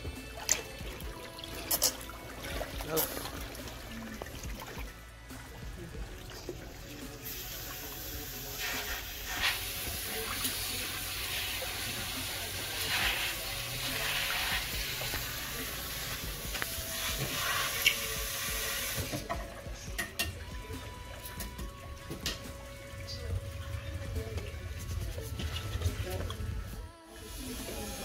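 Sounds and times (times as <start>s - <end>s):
water running into basin: 0.0s - 28.0s.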